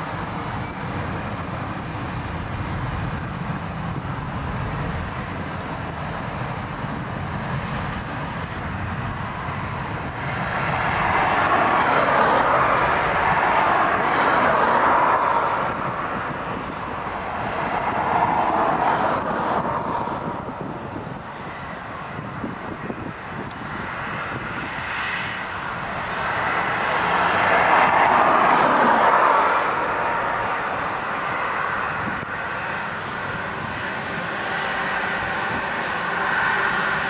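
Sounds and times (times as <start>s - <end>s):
jet airliner engines at takeoff: 0.0s - 37.0s.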